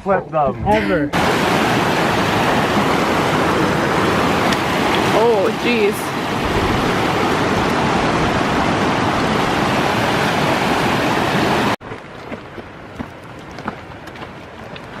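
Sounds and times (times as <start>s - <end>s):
water rushing on a lake: 1.1s - 15.0s
wind buffeting microphone: 1.2s - 15.0s.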